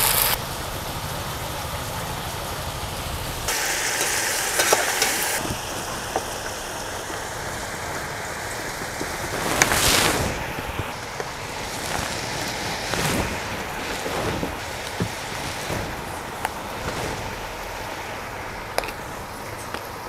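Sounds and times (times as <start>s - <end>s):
soup boiling with bubbling hiss: 0.0s - 20.0s.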